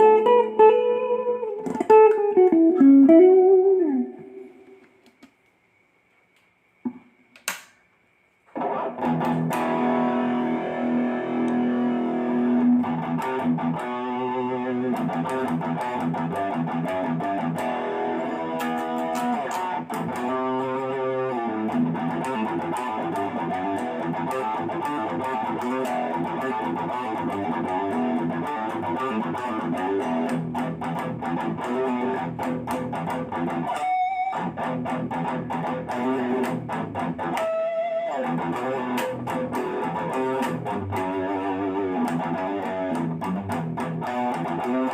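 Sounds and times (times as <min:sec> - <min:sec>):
electric guitar playing: 0:00.0 - 0:04.9, 0:08.5 - 0:44.9.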